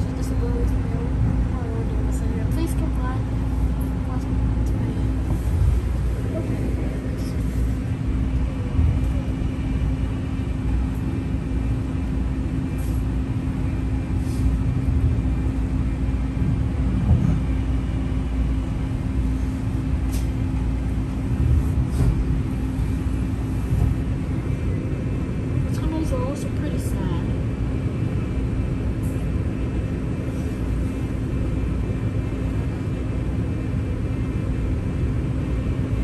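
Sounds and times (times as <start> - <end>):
constant hum: 0.0 - 36.0
train interior rumble: 0.0 - 36.0.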